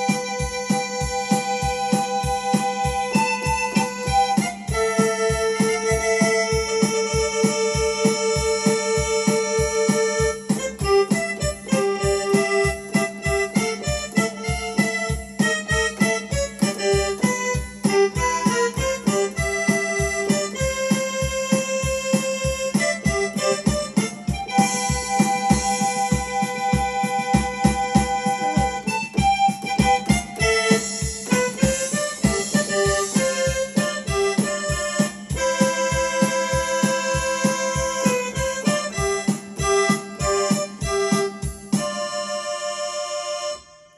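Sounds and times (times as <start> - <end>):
low bass beat: 0.0 - 42.4
accordion melody: 0.0 - 43.9
electronic keyboard tune: 0.0 - 43.9.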